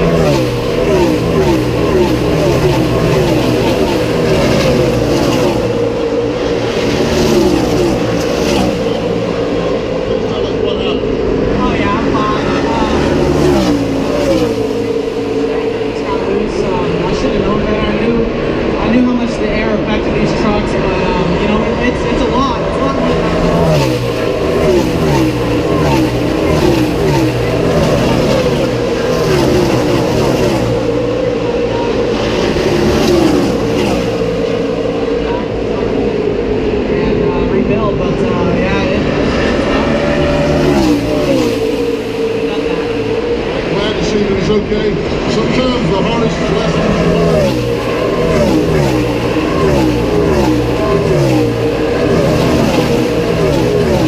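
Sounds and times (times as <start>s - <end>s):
engines passing by: 0.0s - 54.0s
racing trucks engines droning: 0.0s - 54.0s.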